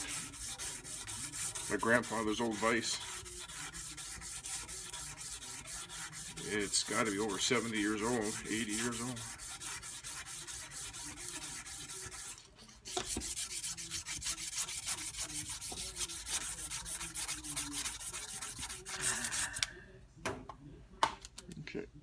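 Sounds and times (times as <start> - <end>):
sandpaper rasping on metal: 0.0 - 19.6.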